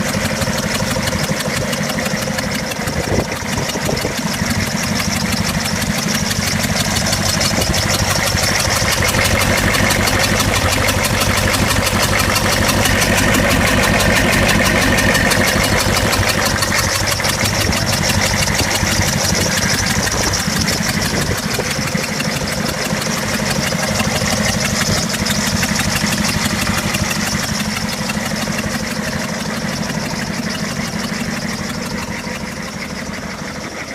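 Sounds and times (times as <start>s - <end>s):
diesel engine idling with misfire: 0.0s - 33.9s.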